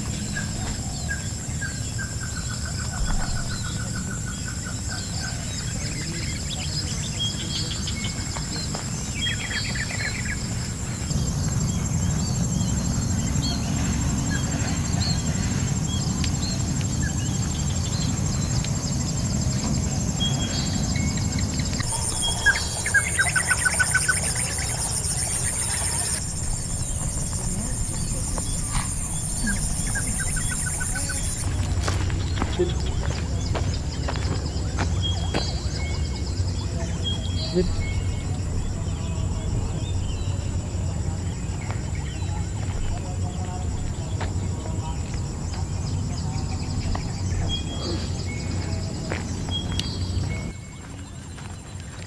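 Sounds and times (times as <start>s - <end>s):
high-pitched hum: 0.0s - 51.0s
birds chirping and trilling: 0.0s - 52.0s.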